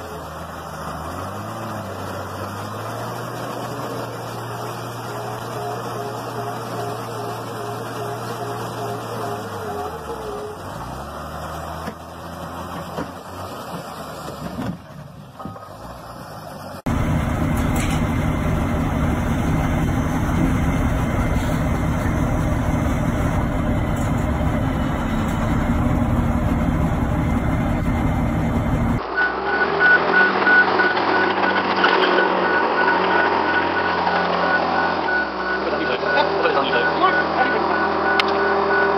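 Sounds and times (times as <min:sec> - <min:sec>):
excavators: 0:00.0 - 0:38.9
heavy machine engine running: 0:00.0 - 0:38.9
truck diesel engine: 0:00.0 - 0:38.9.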